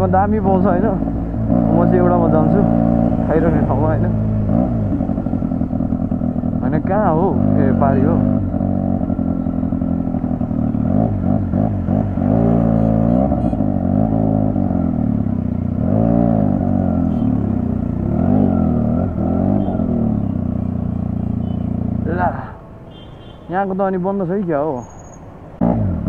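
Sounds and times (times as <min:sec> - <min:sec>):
motorcycle engine running: 0:00.0 - 0:23.3.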